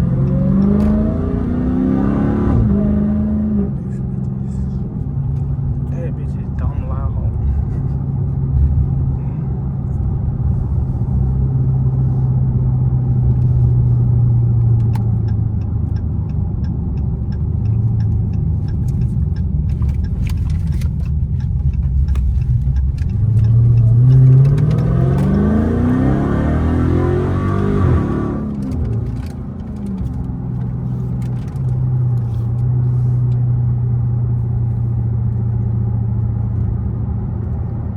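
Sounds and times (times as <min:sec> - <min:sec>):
car engine revving: 0:00.0 - 0:36.8.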